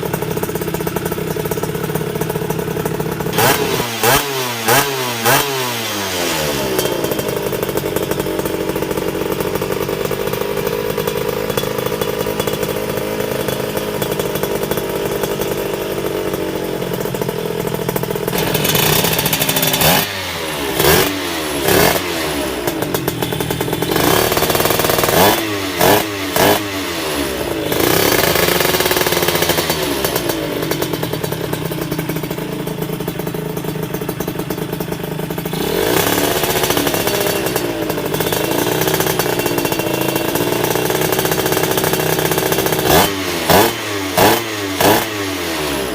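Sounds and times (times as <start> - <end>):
motorcycle engine idling and revving: 0.0 - 45.9.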